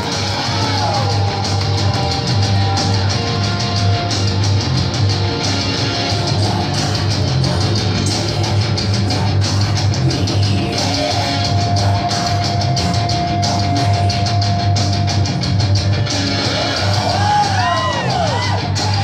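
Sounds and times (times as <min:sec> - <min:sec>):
rock music with guitar and drums: 0:00.0 - 0:19.0.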